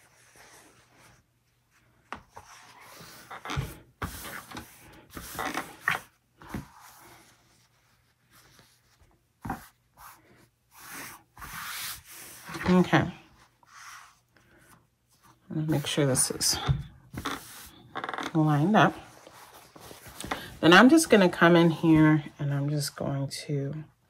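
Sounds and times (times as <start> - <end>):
fabric rustling and rubbing: 0.0 - 14.3, 17.2 - 22.2.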